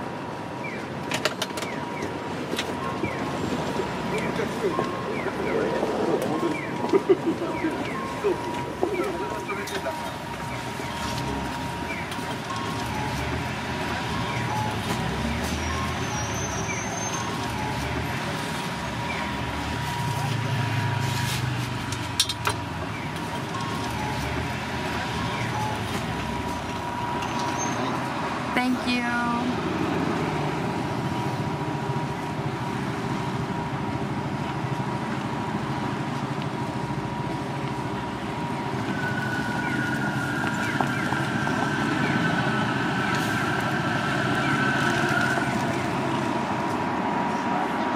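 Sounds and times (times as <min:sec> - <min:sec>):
low rumble of traffic: 0:00.0 - 0:47.9.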